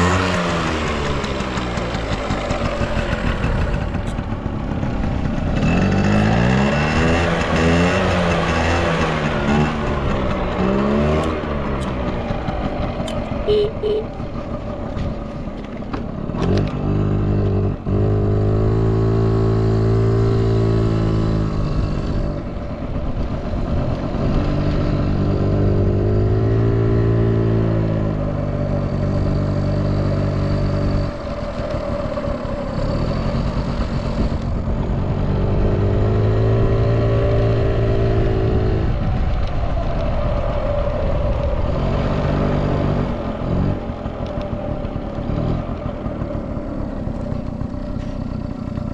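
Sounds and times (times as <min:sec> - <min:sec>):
two-stroke engine revving: 0:00.0 - 0:15.5, 0:16.1 - 0:22.5, 0:23.5 - 0:39.2, 0:41.7 - 0:48.9.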